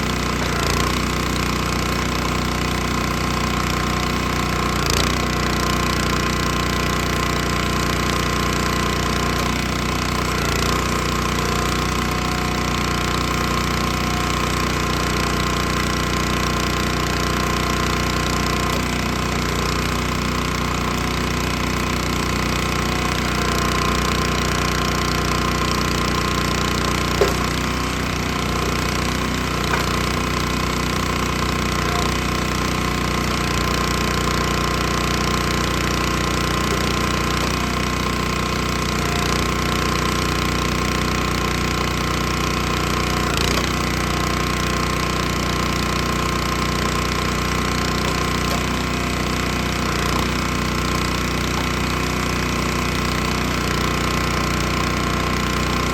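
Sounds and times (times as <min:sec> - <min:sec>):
log splitter engine running: 0:00.0 - 0:55.9.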